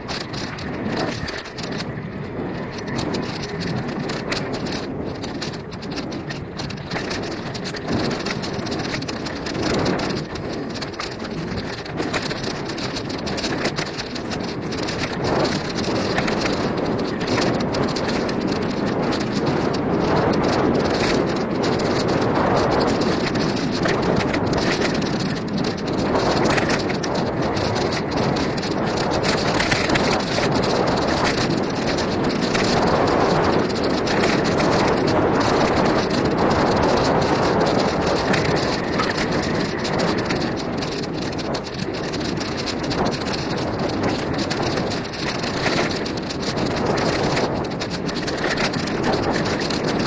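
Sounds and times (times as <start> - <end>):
bike rattling over bumps: 0.0 - 50.0
bike tyres rumbling on dirt: 0.0 - 50.0
wind buffeting microphone: 0.0 - 50.0.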